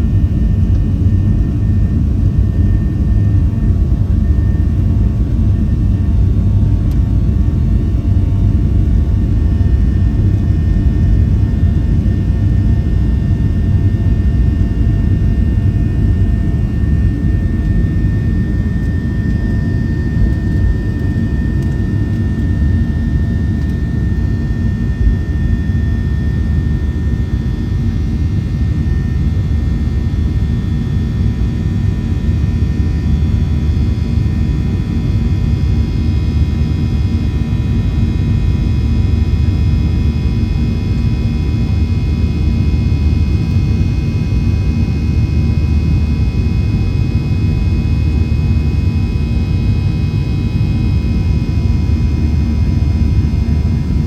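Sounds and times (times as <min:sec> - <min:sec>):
faint steady whines: 0:00.0 - 0:54.0
jet engines and airflow rumble: 0:00.0 - 0:54.0.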